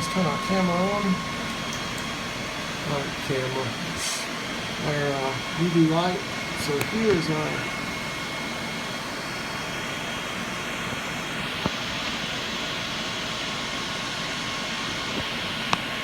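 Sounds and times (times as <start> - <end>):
fans rushing with faint whine: 0.0 - 16.0.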